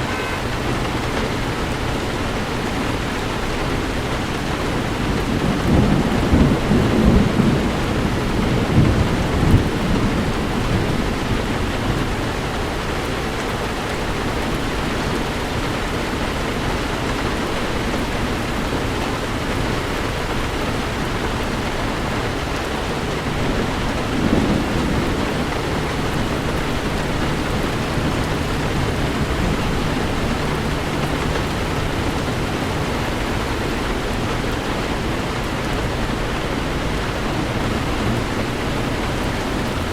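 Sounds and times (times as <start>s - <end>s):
heavy rain on a car: 0.0s - 39.9s
low thunder rumbles: 0.0s - 39.9s.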